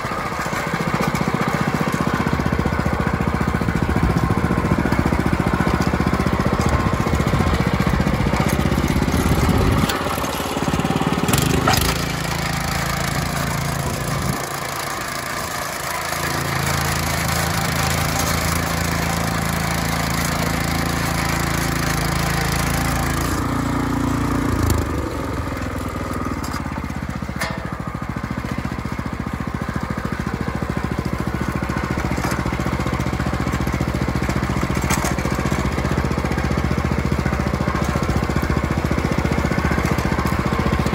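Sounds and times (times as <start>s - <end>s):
tractor engine running under load: 0.0s - 40.9s.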